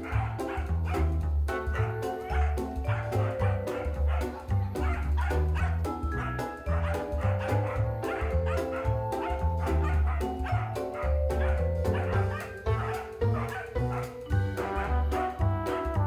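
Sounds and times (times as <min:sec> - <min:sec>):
dogs barking and yipping: 0:00.0 - 0:16.0
music with pulsing bass beat: 0:00.0 - 0:16.0.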